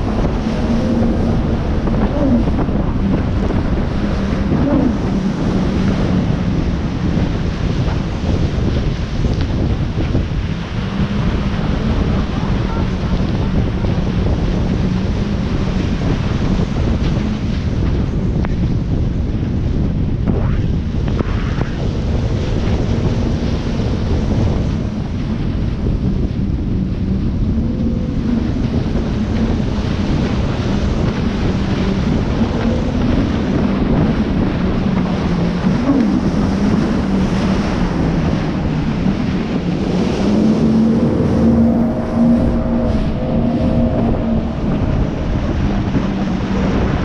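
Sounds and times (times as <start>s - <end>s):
jet ski engine running: 0.0s - 47.0s
water rushing and spraying: 0.0s - 47.0s
wind buffeting microphone: 0.0s - 47.0s.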